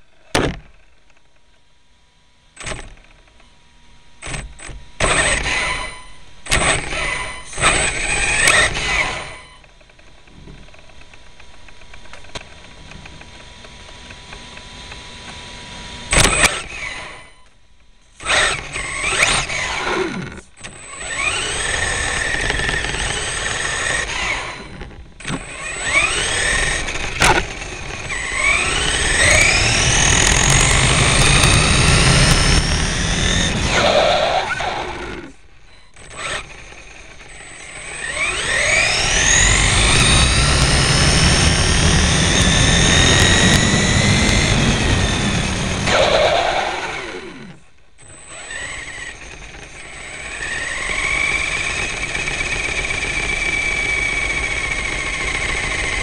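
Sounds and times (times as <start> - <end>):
electric motor whining: 4.2 - 17.5, 18.1 - 56.0.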